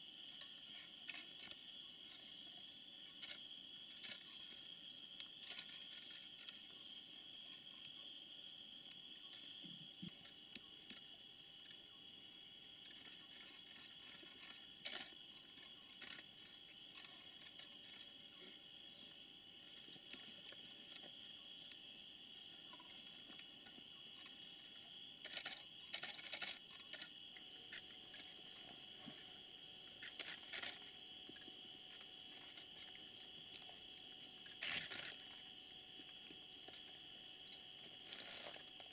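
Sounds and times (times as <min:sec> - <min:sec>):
high steady insect tone: 0:00.0 - 0:38.9
insects trilling: 0:00.0 - 0:38.9.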